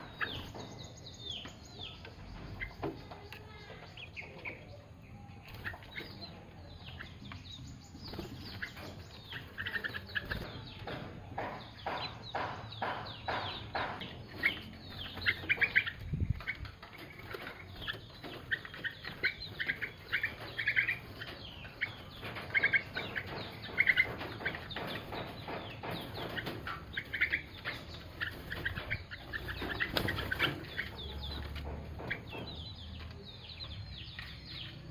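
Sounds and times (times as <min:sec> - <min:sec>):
birds chirping and clucking: 0:00.0 - 0:34.9.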